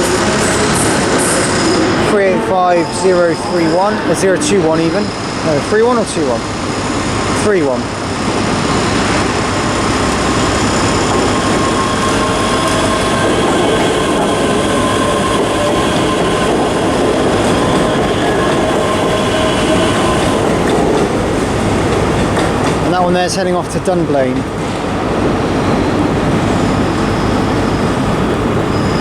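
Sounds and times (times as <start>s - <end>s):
thin high whine: 0.0s - 21.6s, 25.4s - 29.0s
electric train running: 0.0s - 29.0s.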